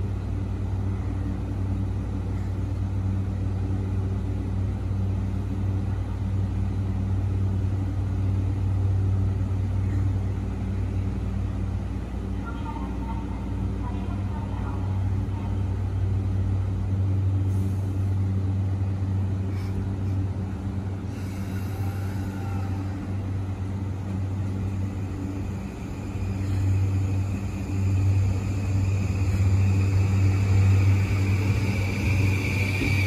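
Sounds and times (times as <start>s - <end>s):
electric train humming: 0.0s - 33.0s.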